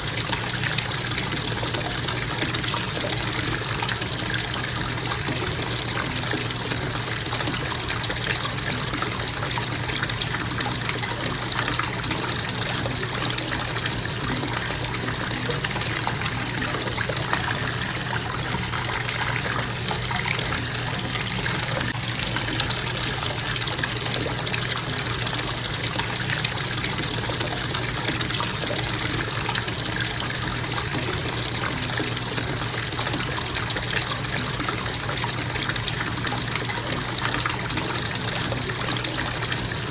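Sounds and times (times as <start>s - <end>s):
water running from faucet: 0.0s - 39.9s.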